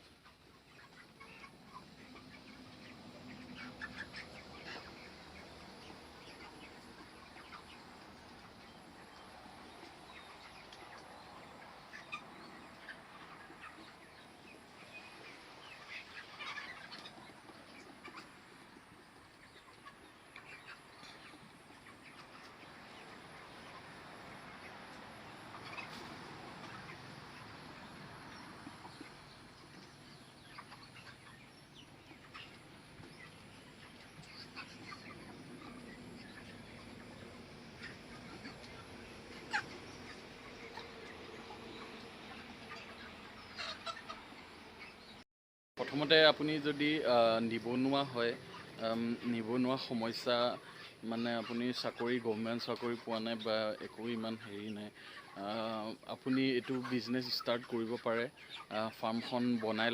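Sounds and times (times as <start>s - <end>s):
chickens clucking: 0.0s - 45.2s, 45.8s - 59.9s.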